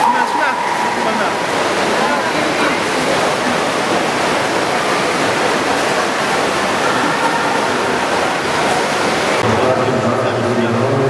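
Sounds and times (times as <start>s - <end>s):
reverberant water wash: 0.0s - 11.0s
swimmers splashing: 0.0s - 11.0s.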